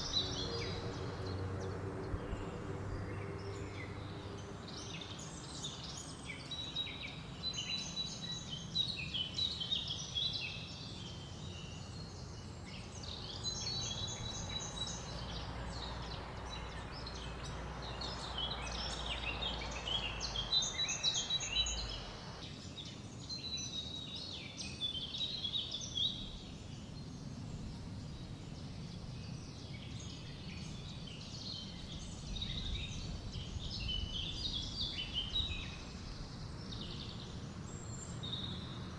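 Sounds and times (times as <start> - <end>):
low rush of wind: 0.0 - 10.0, 10.6 - 22.5, 25.1 - 38.9
songbirds chirping and calling: 0.0 - 38.9.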